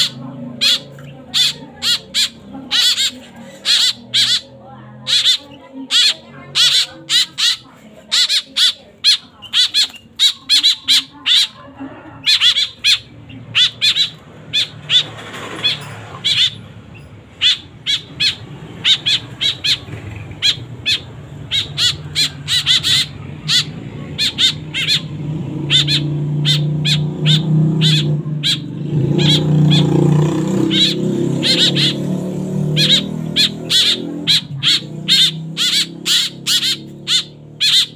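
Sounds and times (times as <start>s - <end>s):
chicks begging squawks: 0.0s - 37.9s.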